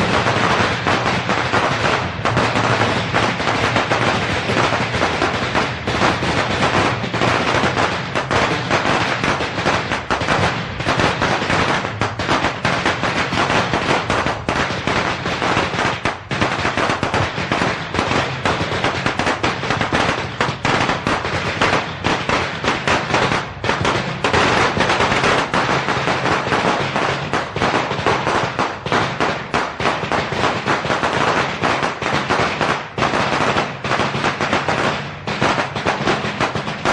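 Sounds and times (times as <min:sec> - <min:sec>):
firecrackers going off: 0:00.0 - 0:36.9.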